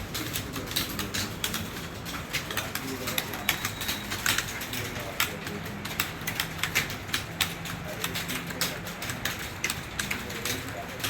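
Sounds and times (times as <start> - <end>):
computer keyboard typing: 0.0 - 11.0.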